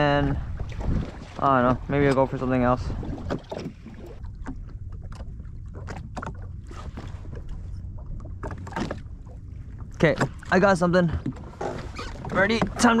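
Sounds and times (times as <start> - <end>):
low steady rumble: 0.0 - 13.0
water lapping against hull: 0.0 - 13.0.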